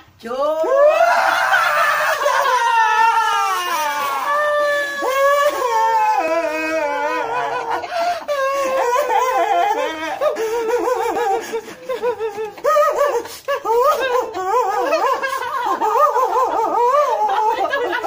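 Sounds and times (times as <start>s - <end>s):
people laughing: 0.6s - 18.0s.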